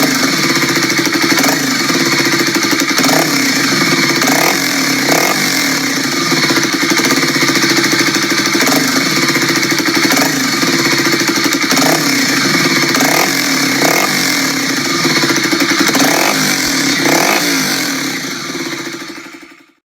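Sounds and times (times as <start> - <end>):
engine pulsing: 0.0 - 19.8.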